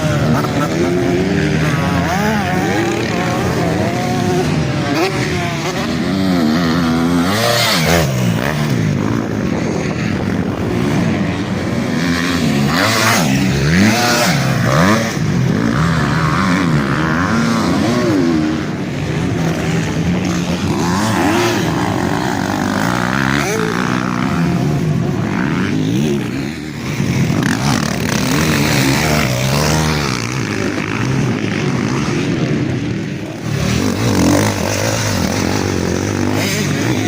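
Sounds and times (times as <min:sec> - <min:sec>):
motocross bikes revving: 0:00.0 - 0:37.0.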